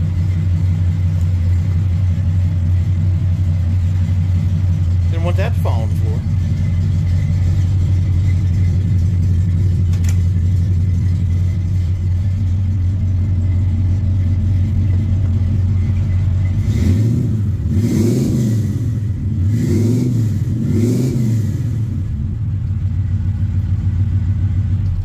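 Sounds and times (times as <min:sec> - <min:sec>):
pickup engine idling and revving: 0:00.0 - 0:25.0.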